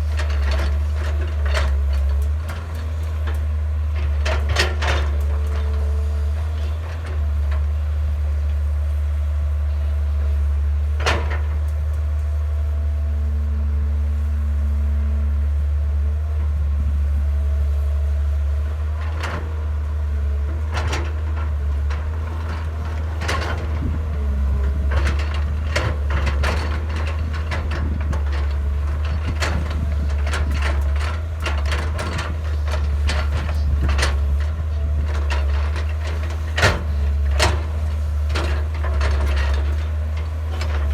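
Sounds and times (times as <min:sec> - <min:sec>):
excavator digging soil: 0:00.0 - 0:13.4, 0:17.4 - 0:40.9
excavator diesel engine droning: 0:00.0 - 0:40.9.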